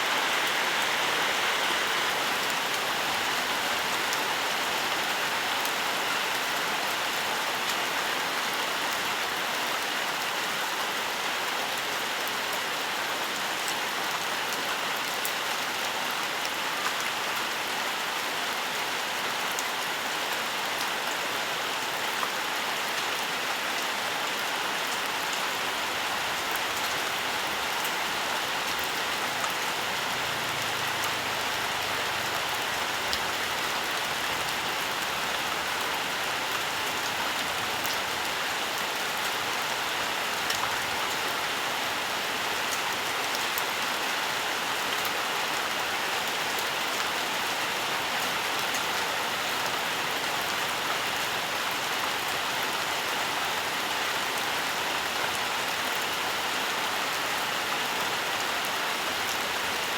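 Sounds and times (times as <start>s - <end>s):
rain on foliage: 0.0s - 59.9s.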